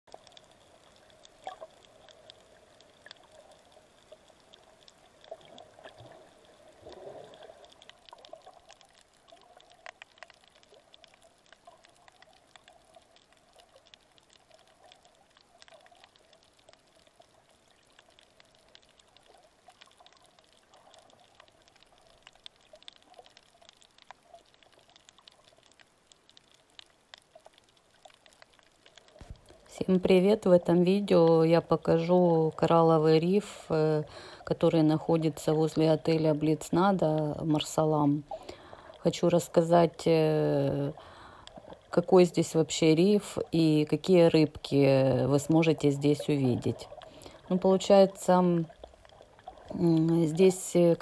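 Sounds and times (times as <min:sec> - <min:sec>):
underwater crackling clicks: 0:00.1 - 0:51.0.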